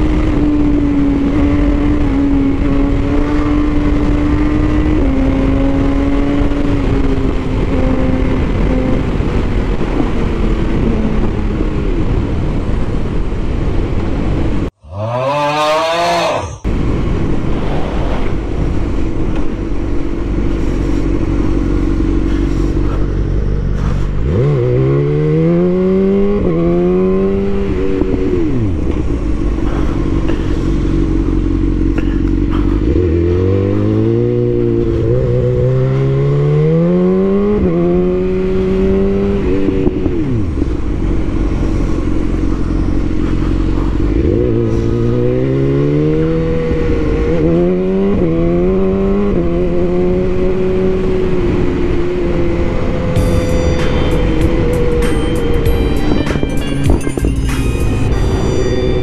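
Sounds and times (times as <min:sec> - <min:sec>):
low engine drone: 0:00.0 - 0:59.0
motorcycle engine accelerating: 0:00.0 - 0:59.0.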